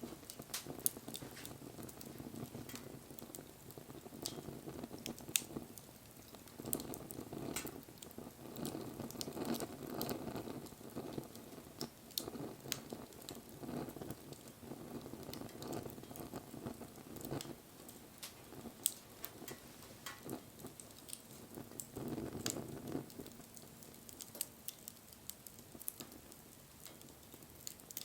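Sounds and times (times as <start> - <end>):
burning wood crackling and popping: 0.0 - 28.0
flames rushing: 0.0 - 28.0.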